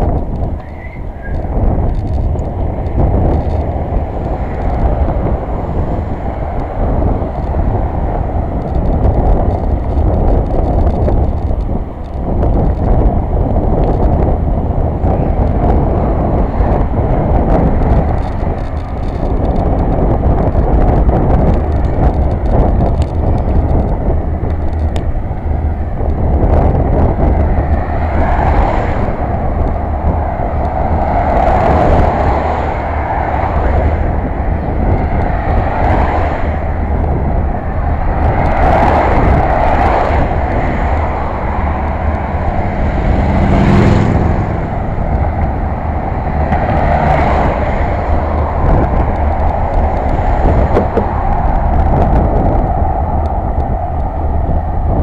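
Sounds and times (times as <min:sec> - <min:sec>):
bicycle knocks and rattles: 0:00.0 - 0:55.0
road rumble: 0:00.0 - 0:55.0
wind: 0:00.0 - 0:55.0.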